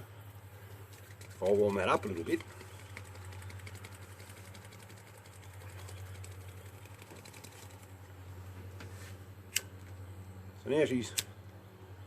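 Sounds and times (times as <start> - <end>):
low fast-pulsing hum: 0.0 - 12.0.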